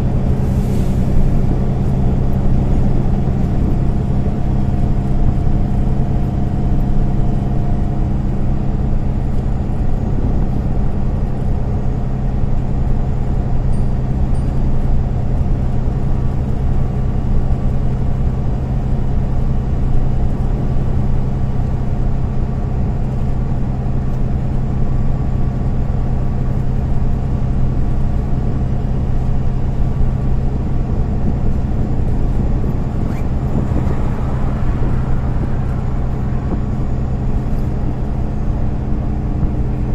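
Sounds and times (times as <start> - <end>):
bus engine running: 0.0 - 39.9
road and tyre noise: 0.0 - 39.9.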